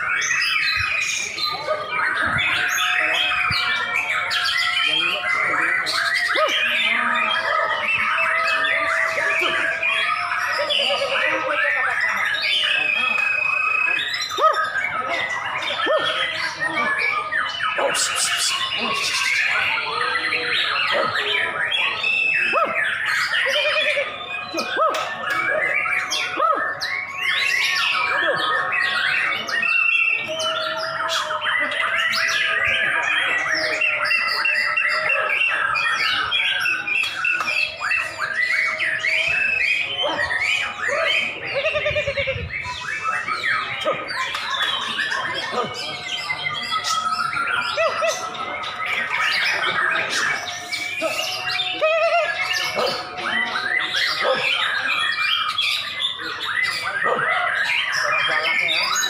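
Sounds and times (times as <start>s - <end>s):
birds whistling and trilling: 0.0s - 59.0s
songbirds singing in chorus: 0.0s - 59.0s.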